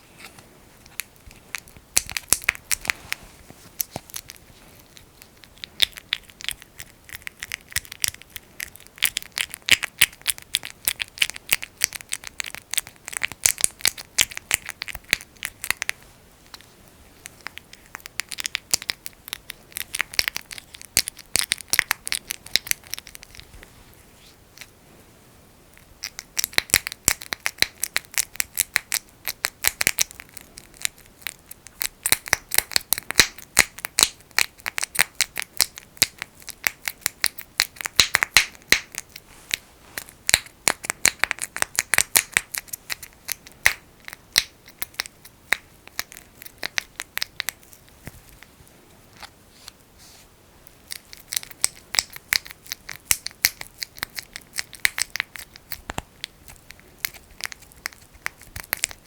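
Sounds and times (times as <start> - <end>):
fingers squishing petroleum jelly: 0.8 - 3.0, 3.7 - 23.5, 25.7 - 48.5, 50.6 - 59.0.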